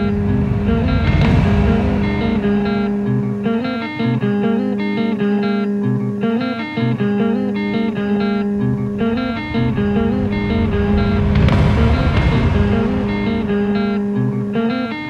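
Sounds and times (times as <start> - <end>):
guitar picking slow figure: 0.0 - 15.0.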